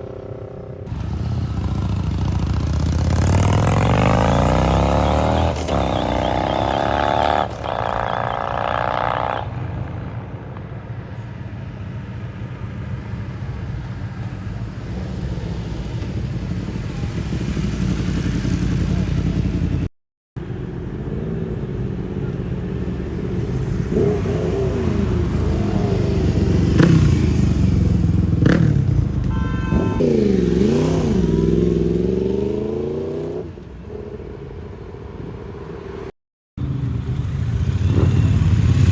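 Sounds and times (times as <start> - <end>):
motorcycle engines revving: 0.0 - 10.4, 12.9 - 38.9.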